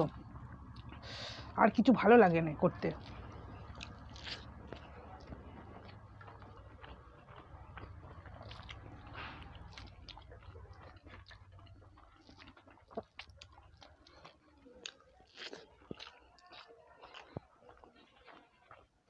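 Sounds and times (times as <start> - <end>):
chewing and wet mouth sounds: 0.0 - 19.0
faint low hum: 0.0 - 19.0.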